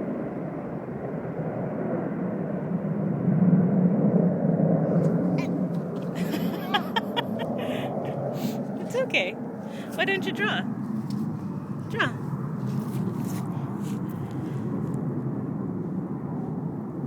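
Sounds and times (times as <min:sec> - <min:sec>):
aircraft passing overhead: 0:00.0 - 0:17.0.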